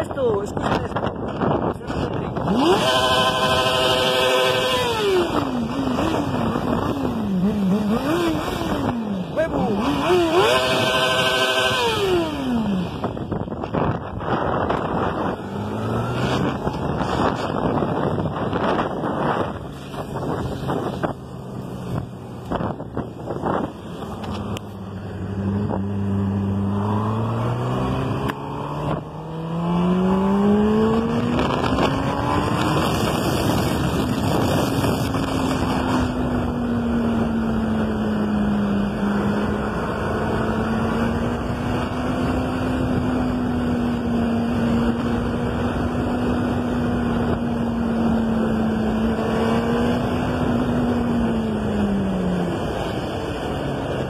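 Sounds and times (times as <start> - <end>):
engine speeding up: 0.0 - 54.0.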